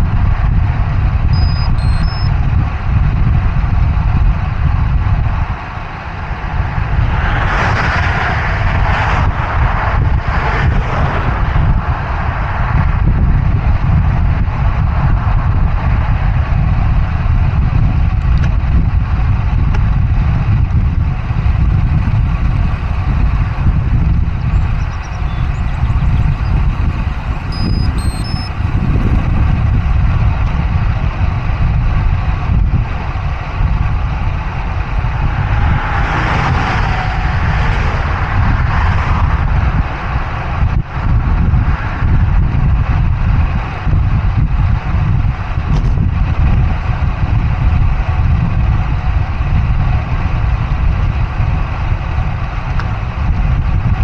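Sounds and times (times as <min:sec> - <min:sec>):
highway traffic passing: 0:00.0 - 0:48.8
wind rumble on microphone: 0:00.0 - 0:54.0.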